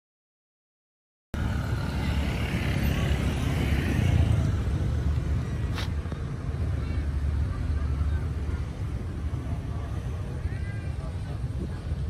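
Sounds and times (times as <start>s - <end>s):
motor scooters riding past: 1.4s - 11.8s
road rumble: 1.4s - 12.0s.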